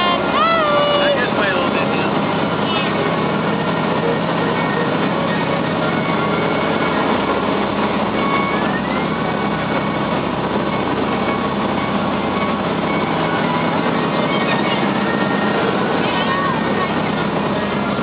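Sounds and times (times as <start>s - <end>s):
engine running steadily: 0.0s - 18.0s
brief rising tone: 2.6s - 18.0s.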